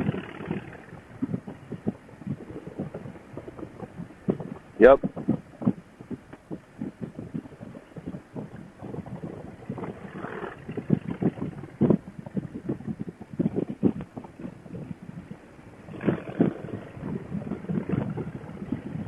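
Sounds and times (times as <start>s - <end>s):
wind buffeting helmet microphone: 0.0s - 19.0s.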